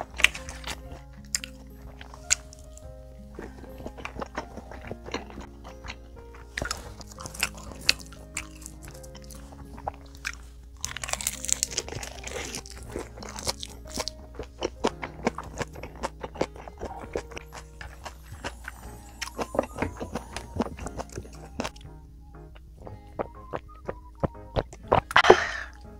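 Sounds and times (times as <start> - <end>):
chewing and crunching food: 0.0 - 25.9
soft background music: 0.0 - 25.9.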